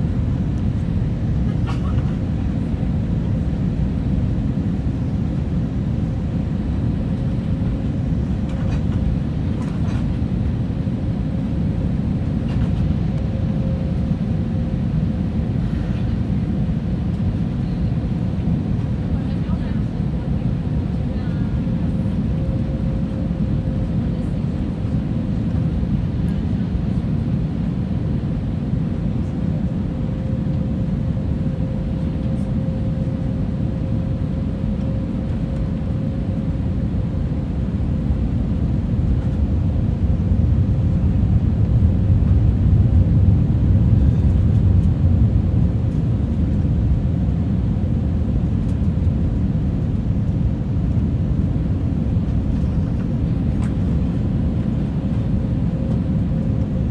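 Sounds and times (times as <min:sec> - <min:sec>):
jet engine roar in cabin: 0:00.0 - 0:56.9.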